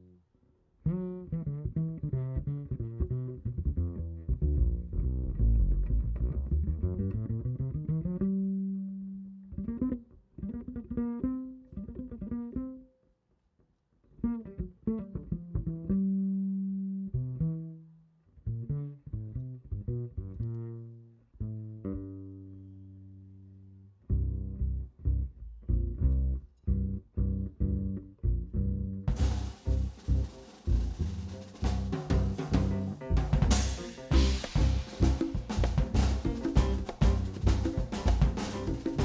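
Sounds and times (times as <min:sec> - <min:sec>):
double bass plucked pizzicato: 0:00.8 - 0:12.9, 0:14.2 - 0:39.0.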